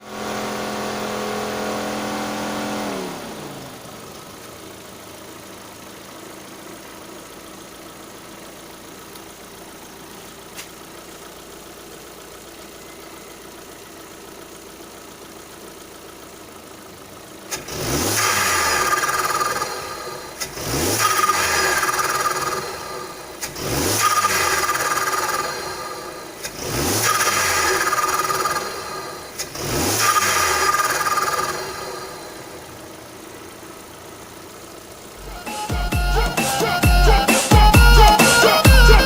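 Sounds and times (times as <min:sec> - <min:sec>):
turbocharged car engine revving: 0:00.0 - 0:39.0.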